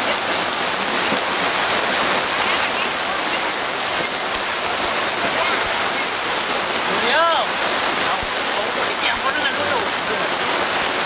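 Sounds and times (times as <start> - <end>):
faint voices: 0.0 - 10.8.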